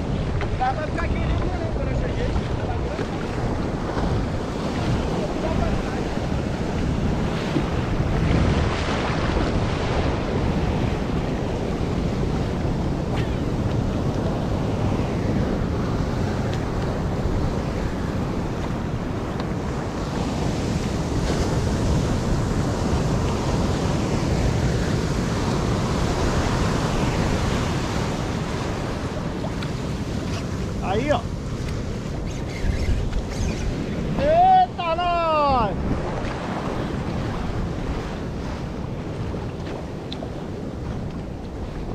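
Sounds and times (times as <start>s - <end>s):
waves and surf washing: 0.0s - 41.9s
wind buffeting microphone: 0.0s - 41.9s.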